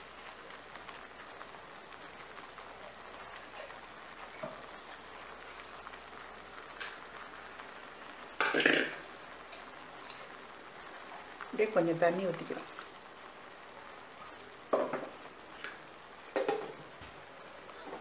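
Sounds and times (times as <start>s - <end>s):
gravy bubbling and spitting: 0.0s - 18.0s.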